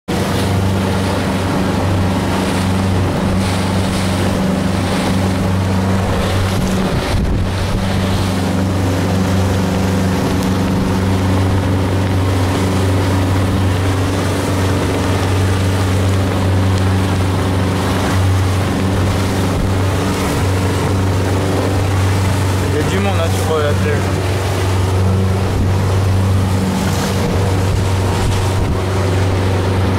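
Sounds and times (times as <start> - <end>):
boat engine droning: 0.1 - 29.9
water rushing past hull: 0.1 - 29.9
wind buffeting microphone: 0.2 - 29.9.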